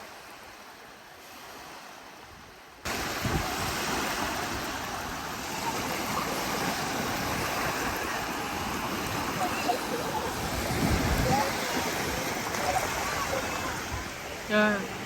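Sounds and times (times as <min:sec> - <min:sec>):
beach surf: 0:00.0 - 0:15.0
wind buffeting microphone: 0:02.4 - 0:15.0.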